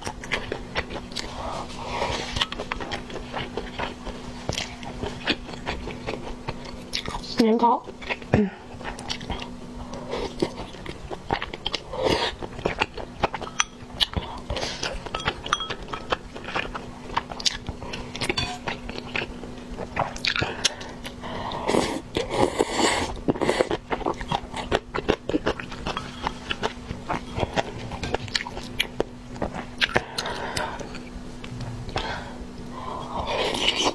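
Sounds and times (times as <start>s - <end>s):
wet chewing and lip-smacking: 0.0s - 21.2s, 21.8s - 31.1s
faint steady hum: 0.0s - 33.9s.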